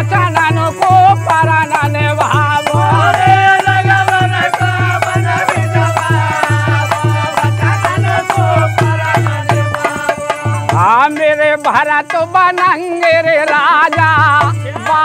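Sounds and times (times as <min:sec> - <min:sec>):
hand drum beat: 0:00.0 - 0:15.0
men singing in chorus: 0:00.0 - 0:15.0
rattling percussion: 0:00.0 - 0:15.0.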